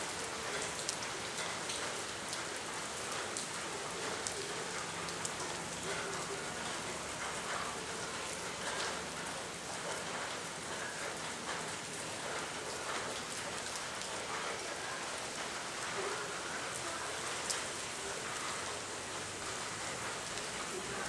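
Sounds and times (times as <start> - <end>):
raindrops pattering on surfaces: 0.0 - 21.0
steady rain hiss: 0.0 - 21.0.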